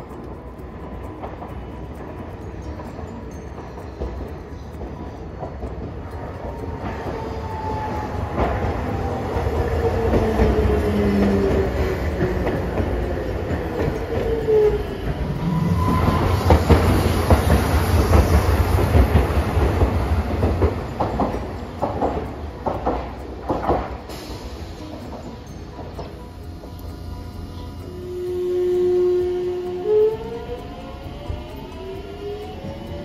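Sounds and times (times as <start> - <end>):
streetcar electric motor whine: 0.0 - 33.0
wheels rumbling and clicking on rails: 0.0 - 33.0.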